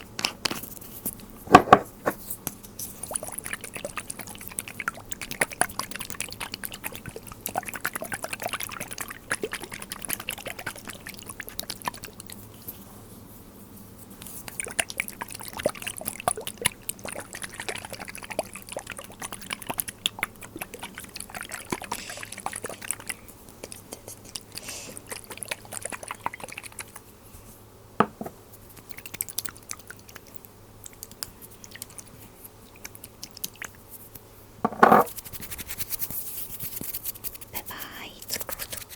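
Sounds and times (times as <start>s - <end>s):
faint liquid sounds: 2.0s - 34.2s, 34.9s - 38.9s.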